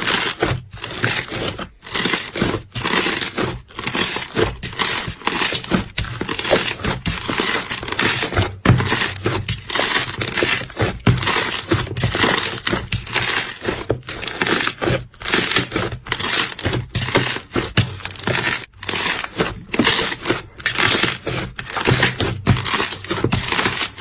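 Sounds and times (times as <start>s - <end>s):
slime squishing and crackling: 0.0s - 24.0s.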